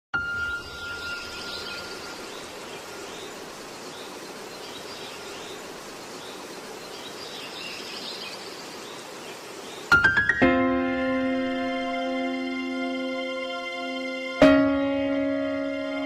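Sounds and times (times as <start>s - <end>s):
birds chirping: 0.2s - 16.0s
steady background hiss: 0.2s - 16.0s.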